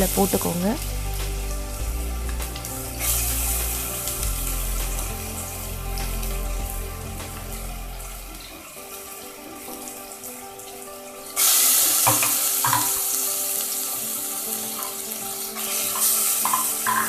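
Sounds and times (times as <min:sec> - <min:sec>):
spice paste sizzling in oil: 0:00.0 - 0:17.0.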